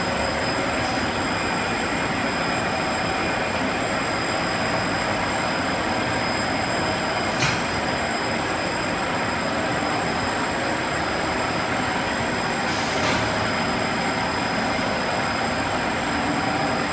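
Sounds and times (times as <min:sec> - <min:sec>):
conveyor machinery din: 0:00.0 - 0:16.9.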